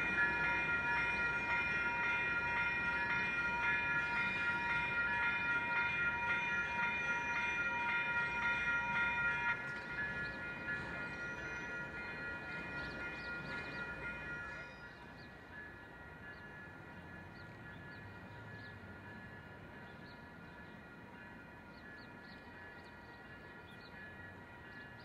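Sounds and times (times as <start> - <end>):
crossing warning bells ringing: 0.0 - 25.0
train passing: 0.0 - 25.0.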